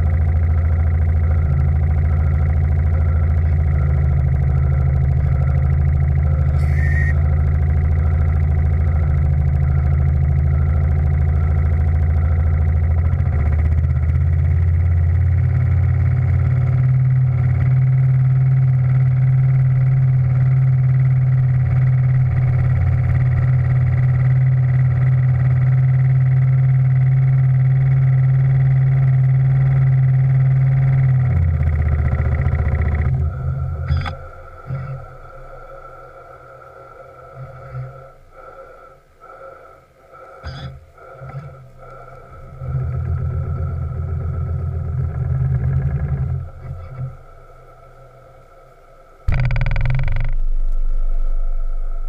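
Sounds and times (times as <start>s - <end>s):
steam engine running: 0.0s - 52.0s.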